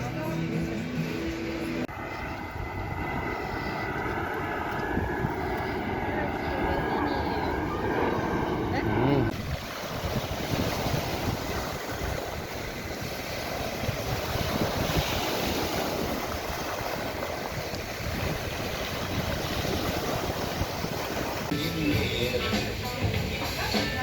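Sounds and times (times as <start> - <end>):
sea surf washing: 0.0 - 24.0
wind on microphone: 1.5 - 21.6.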